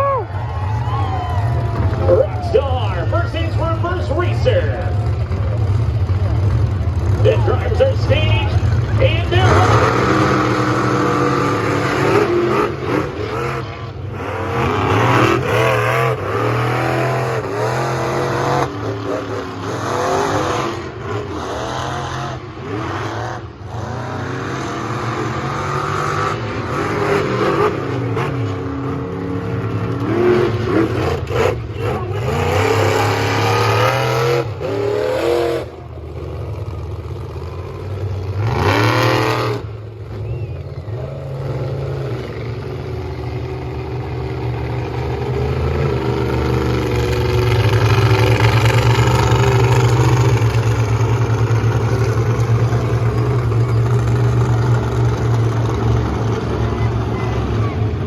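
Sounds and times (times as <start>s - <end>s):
monster truck engines revving: 0.0s - 58.0s.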